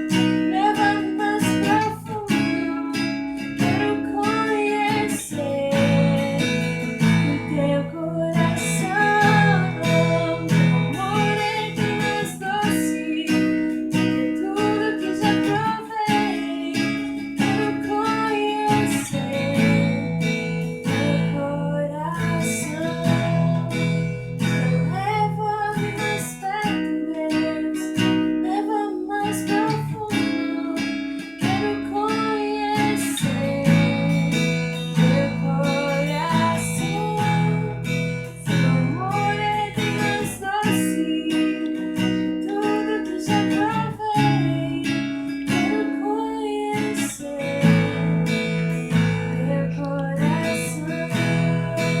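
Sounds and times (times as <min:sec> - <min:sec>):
acoustic guitar strumming: 0:00.0 - 0:52.0
woman singing: 0:00.0 - 0:52.0.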